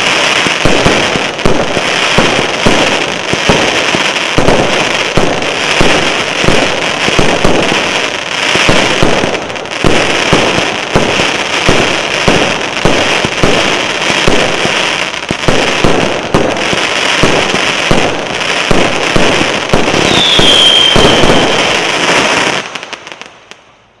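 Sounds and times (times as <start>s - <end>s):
falling firework whistle: 0.0s - 24.0s
fireworks bangs and crackling: 0.0s - 24.0s.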